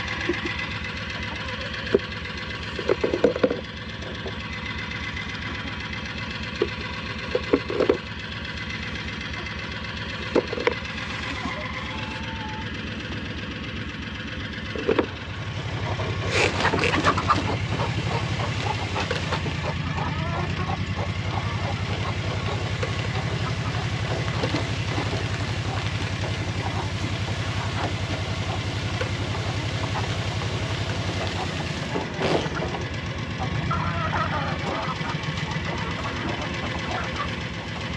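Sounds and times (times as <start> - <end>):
engine running at low speed: 0.0 - 37.9.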